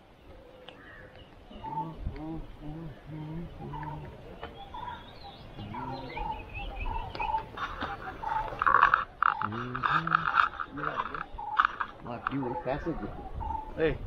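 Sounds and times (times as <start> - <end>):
higher bird chirps: 0.0 - 14.0
short low bird calls: 0.0 - 14.0.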